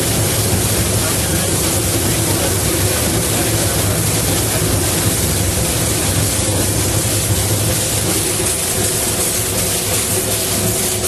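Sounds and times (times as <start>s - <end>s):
steam locomotive rushing hiss: 0.0s - 11.0s.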